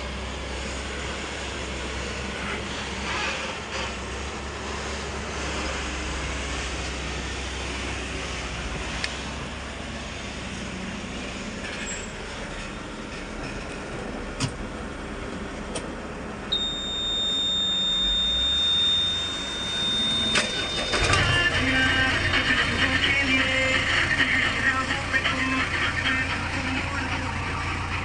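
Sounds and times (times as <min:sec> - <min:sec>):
diesel machinery rumbling: 0:00.0 - 0:28.0.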